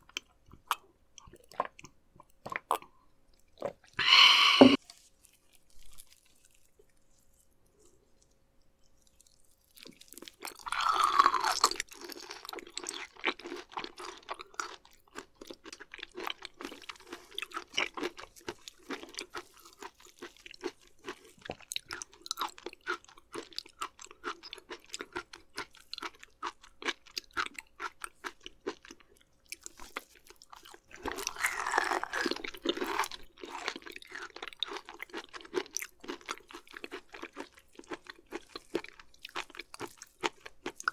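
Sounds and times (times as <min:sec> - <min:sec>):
wet chewing of raw meat: 0:00.1 - 0:40.9.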